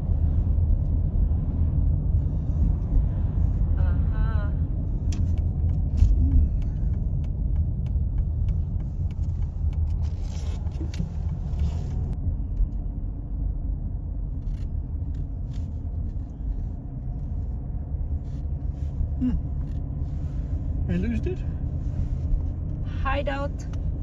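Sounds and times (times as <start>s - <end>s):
engine and tyre rumble: 0.0s - 24.0s.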